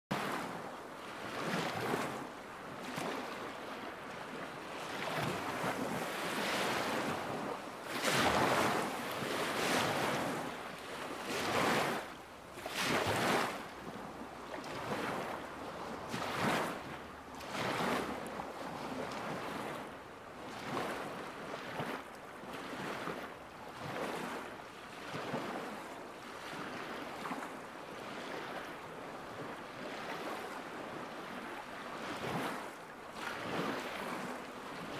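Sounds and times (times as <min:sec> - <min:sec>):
waves lapping at shore: 0:00.1 - 0:34.9.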